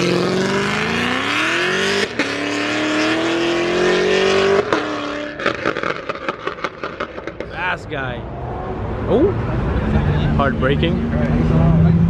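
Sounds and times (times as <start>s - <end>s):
car engine revving and shifting: 0.0s - 7.6s, 8.2s - 12.0s.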